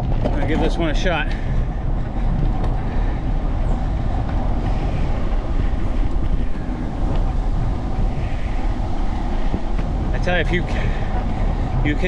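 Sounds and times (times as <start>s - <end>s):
tyres rolling on pavement: 0.0s - 12.0s
wind buffeting microphone: 0.0s - 12.0s.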